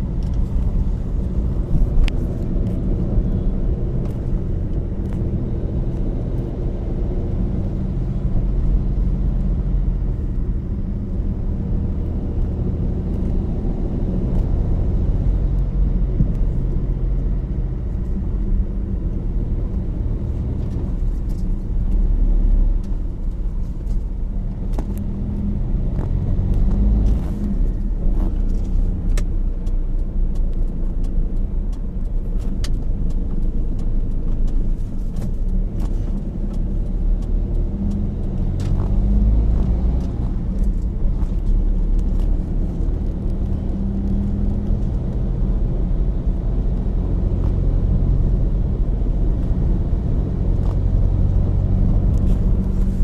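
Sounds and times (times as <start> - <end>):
car rumbling on the move: 0.0 - 53.0.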